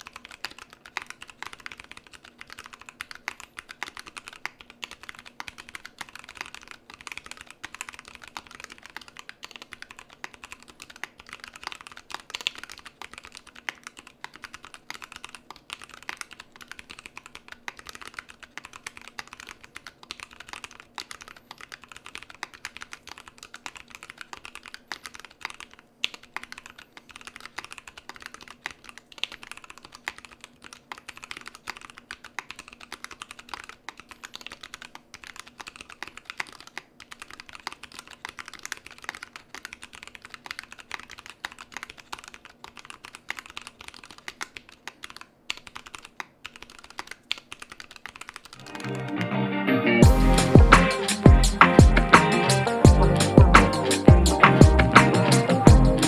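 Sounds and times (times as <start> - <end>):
mechanical keyboard typing: 0.0 - 48.7, 50.4 - 56.0.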